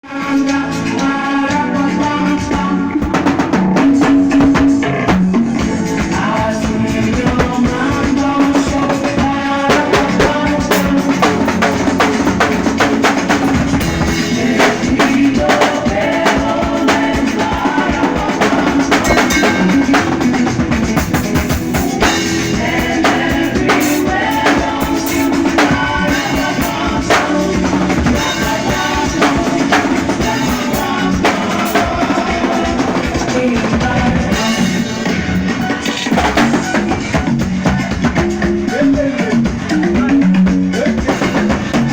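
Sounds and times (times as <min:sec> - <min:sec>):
band music with singing: 0:00.0 - 0:41.9
drum kit groove: 0:00.3 - 0:41.9.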